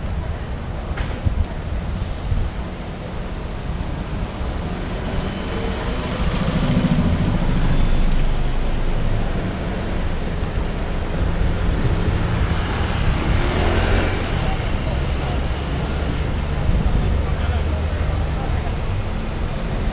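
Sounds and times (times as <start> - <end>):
bus engine running: 0.0 - 19.9
road traffic noise: 0.0 - 19.9.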